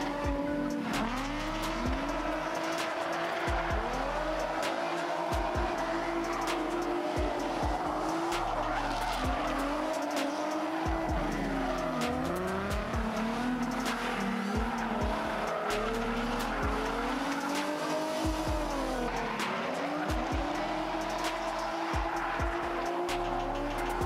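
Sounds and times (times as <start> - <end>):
car engines revving hard: 0.0 - 24.0
tyres squealing: 0.0 - 24.0.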